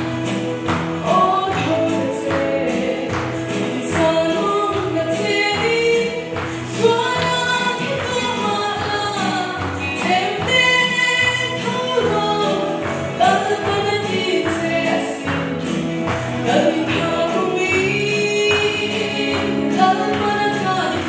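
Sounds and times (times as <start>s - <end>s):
percussion beat: 0.0s - 21.0s
woman singing into a microphone: 0.0s - 21.0s.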